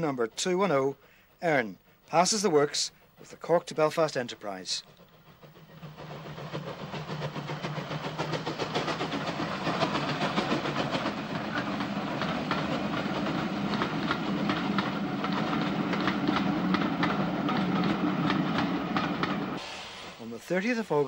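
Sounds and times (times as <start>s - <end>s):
train wheels clicking over joints: 0.0s - 19.7s
train rumble: 0.0s - 21.0s.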